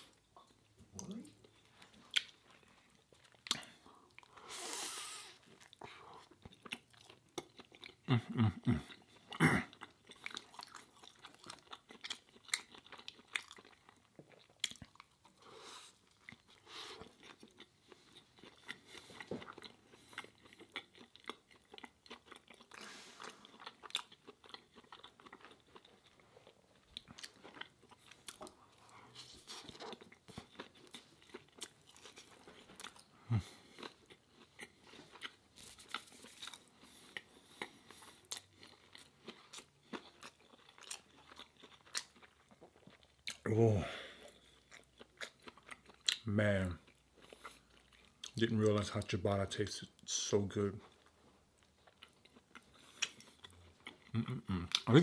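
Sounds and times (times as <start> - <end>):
chewing crunchy sandwich: 0.0 - 49.2, 49.8 - 55.0.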